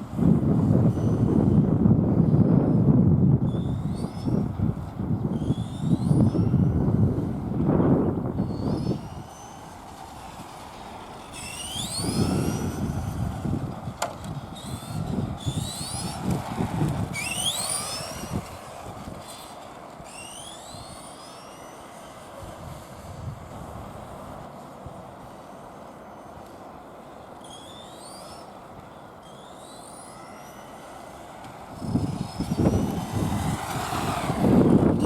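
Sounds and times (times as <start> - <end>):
electric motor and gearbox whining: 0.0 - 35.0
low rumble of toy truck: 0.0 - 35.0.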